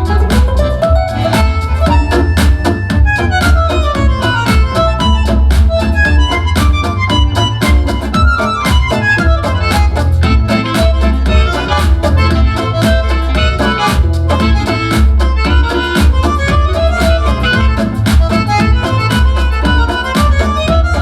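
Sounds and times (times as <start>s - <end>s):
heavy pulsing bass line: 0.0s - 21.0s
melodic lead instrument: 0.0s - 21.0s
steady drum beat: 0.0s - 21.0s.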